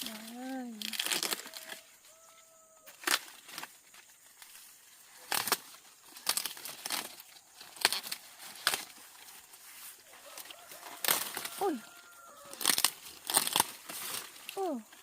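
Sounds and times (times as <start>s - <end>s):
dry corn plants crackling: 0.0s - 15.0s.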